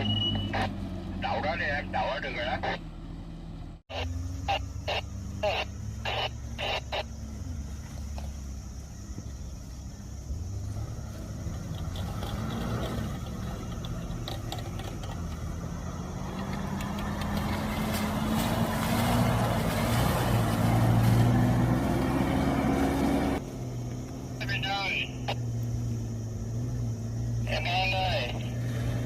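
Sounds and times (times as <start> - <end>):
engine running under load: 0.0 - 29.0.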